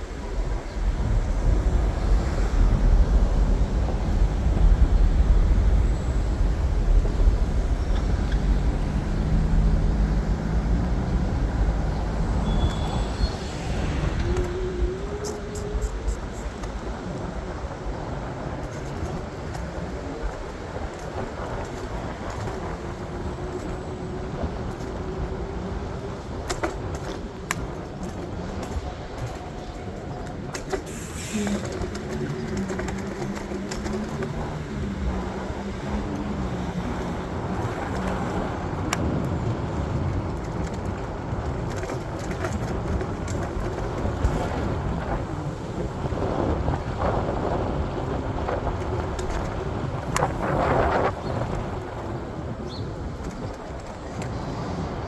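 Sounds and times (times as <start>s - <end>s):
vehicle running hum: 0.0s - 55.0s.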